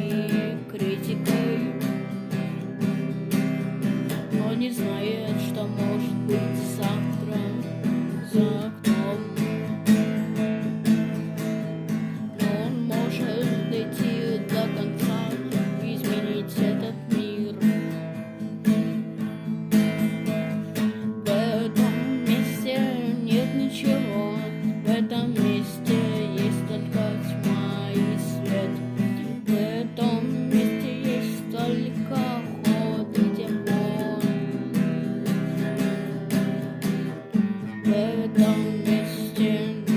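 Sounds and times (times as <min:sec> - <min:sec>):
lead guitar melody: 0:00.0 - 0:39.9
strummed guitars: 0:00.0 - 0:39.9.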